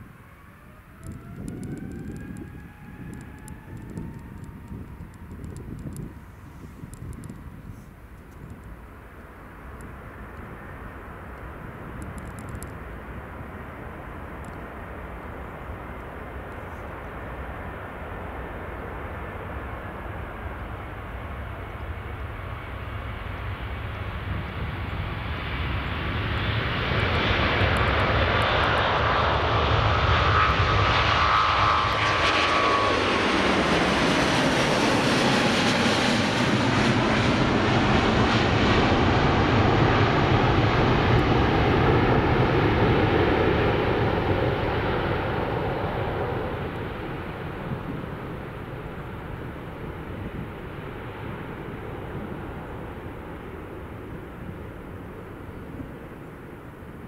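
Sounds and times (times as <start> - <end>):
jet engines at take-off: 0.0 - 57.0.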